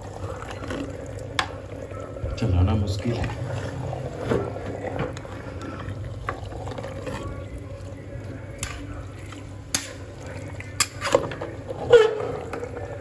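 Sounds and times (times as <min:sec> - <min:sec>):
wet squelching of stirred food: 0:00.0 - 0:13.0.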